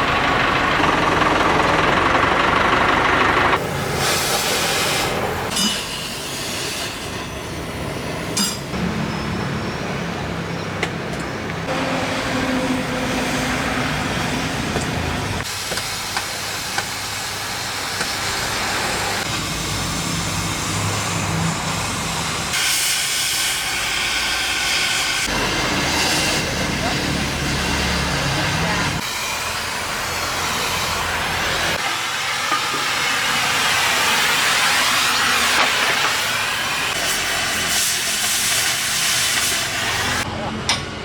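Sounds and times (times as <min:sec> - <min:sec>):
heavy machinery hissing: 0:00.0 - 0:10.6, 0:11.6 - 0:40.3.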